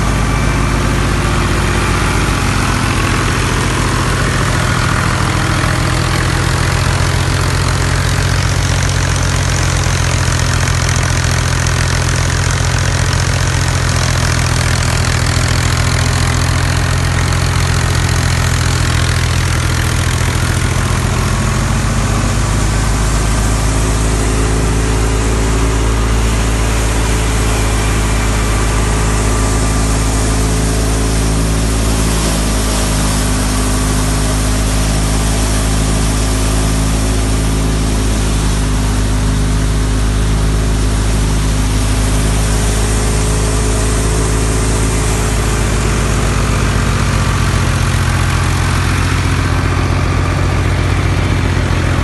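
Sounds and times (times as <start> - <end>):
thresher machinery running: 0.0 - 52.0
tractor diesel engine running: 0.0 - 52.0.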